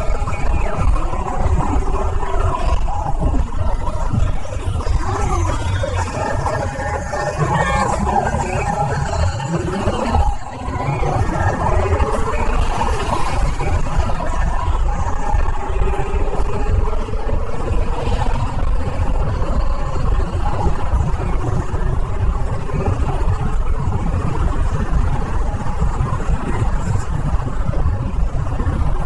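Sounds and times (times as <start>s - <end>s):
heavy low rumble: 0.0s - 29.0s.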